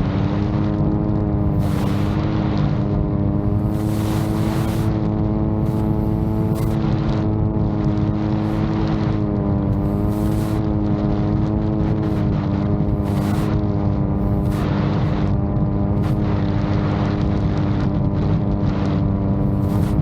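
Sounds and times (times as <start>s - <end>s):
drone propellers droning hum: 0.0s - 20.0s
wind buffeting microphone: 0.0s - 20.0s.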